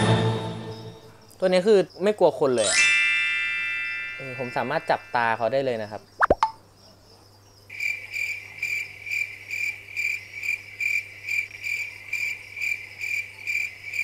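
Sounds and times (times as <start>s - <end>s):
cricket chirping: 0.6s - 2.6s, 3.6s - 14.0s.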